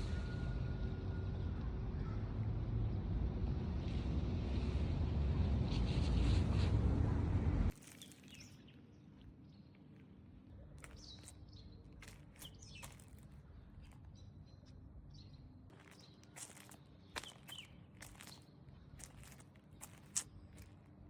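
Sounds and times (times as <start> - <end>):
low steady background rumble: 0.0 - 21.0.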